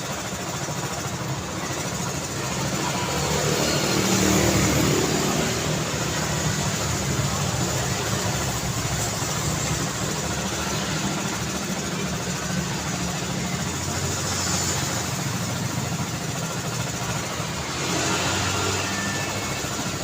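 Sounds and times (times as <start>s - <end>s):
car engines: 0.0s - 20.0s.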